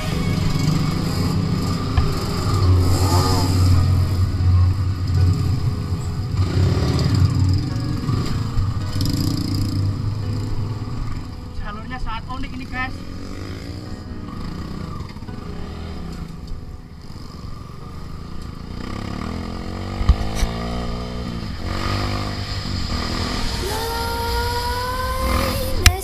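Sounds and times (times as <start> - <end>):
motorcycle engine revving: 0.0 - 11.5, 12.3 - 26.0.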